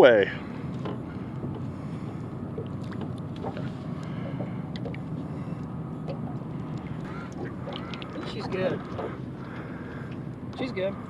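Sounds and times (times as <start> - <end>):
boat motor humming: 0.0 - 11.0
water splashes: 0.4 - 11.0.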